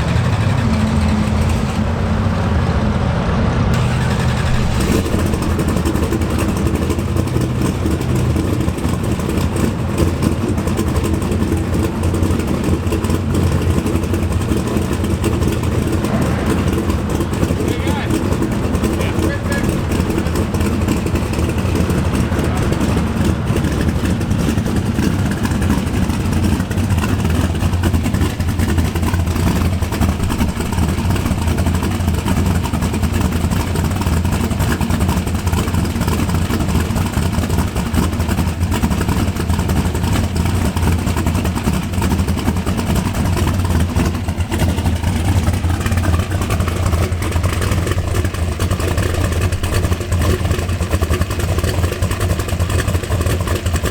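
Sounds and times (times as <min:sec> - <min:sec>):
car engine running at low revs: 0:00.0 - 0:53.9.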